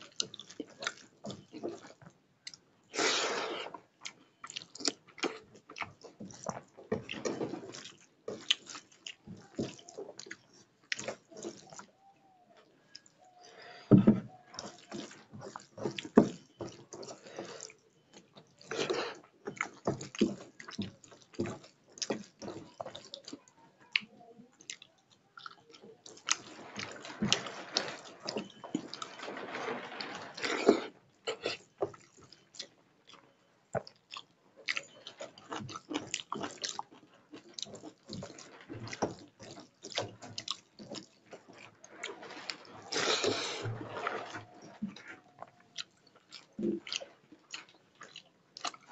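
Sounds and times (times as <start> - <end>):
chewing and mouth smacks: 0.0 - 2.6, 4.0 - 12.0, 14.4 - 29.0, 31.2 - 48.9
wet food mixing by hand: 3.5 - 48.9.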